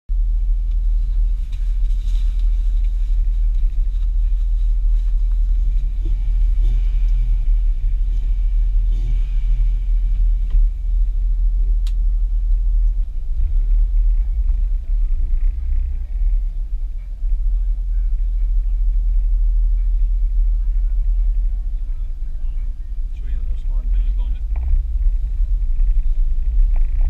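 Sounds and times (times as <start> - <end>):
car engine idling: 0.1 - 27.0
faint voices: 1.1 - 27.0.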